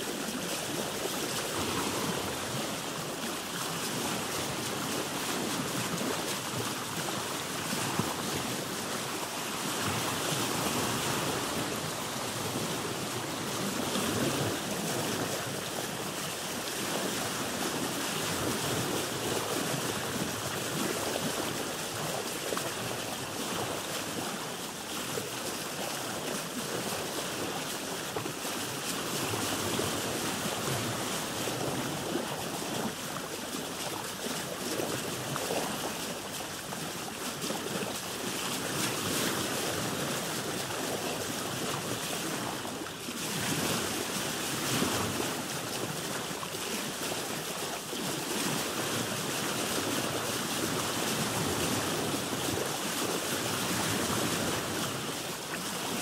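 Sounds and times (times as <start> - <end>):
sea water lapping around boat: 0.0 - 56.0.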